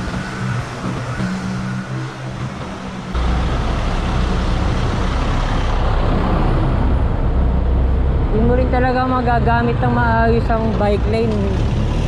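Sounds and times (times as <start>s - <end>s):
city road traffic: 0.0s - 12.0s
heavy vehicle engine rumble: 0.0s - 12.0s.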